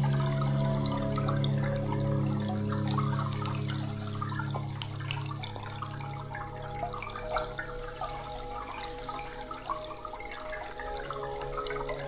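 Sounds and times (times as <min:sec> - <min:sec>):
ambient music with low held notes: 0:00.0 - 0:12.0
water dripping: 0:00.0 - 0:12.0
water trickling: 0:00.0 - 0:12.0.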